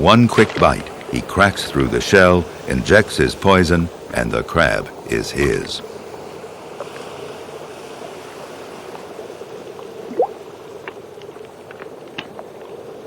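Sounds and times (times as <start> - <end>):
underwater bubbling and gurgling: 0.0 - 13.0.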